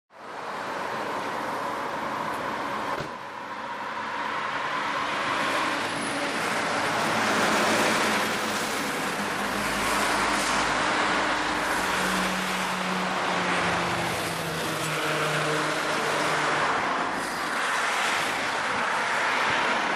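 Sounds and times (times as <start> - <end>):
highway traffic rushing: 0.1 - 19.9.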